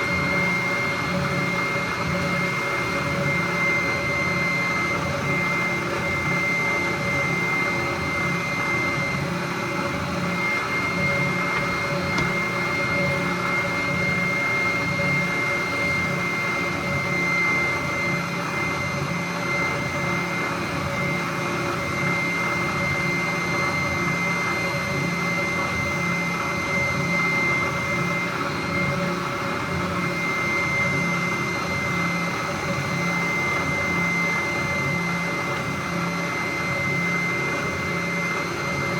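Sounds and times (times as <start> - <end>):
power sander sanding wood: 0.0 - 38.9.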